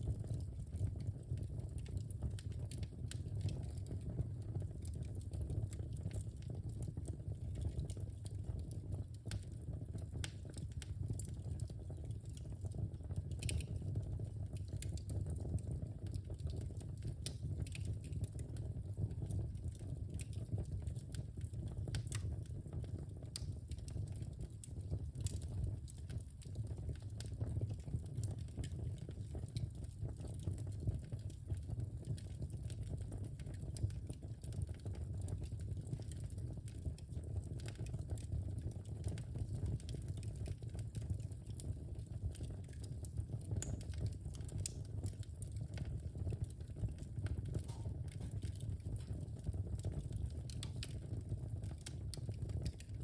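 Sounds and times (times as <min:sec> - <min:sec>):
fire flames rumbling: 0:00.0 - 0:53.0
logs crackling and popping: 0:00.1 - 0:53.0.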